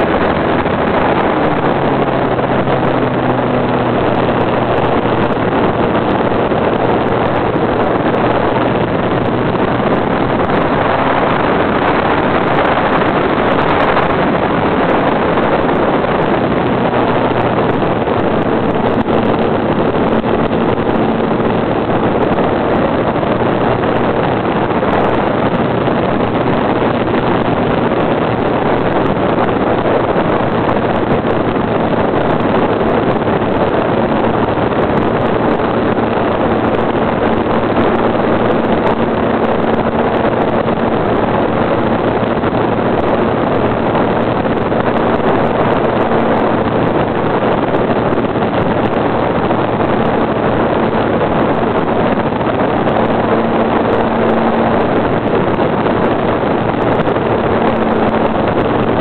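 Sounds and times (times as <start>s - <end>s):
model airplane motor running: 0.0s - 59.0s
wind rushing on microphone: 0.0s - 59.0s.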